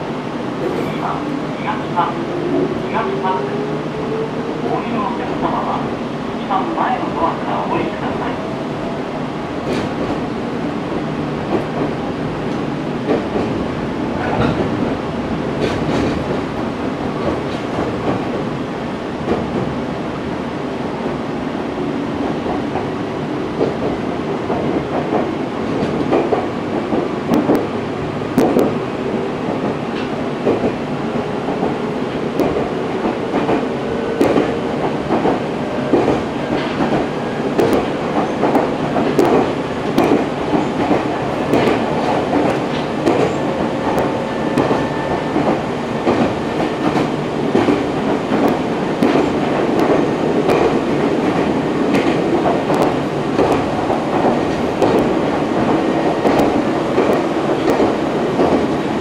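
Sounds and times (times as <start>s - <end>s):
train wheels on rail: 0.0s - 59.0s
rail joint clicks: 6.4s - 18.6s, 19.2s - 19.9s, 22.1s - 59.0s.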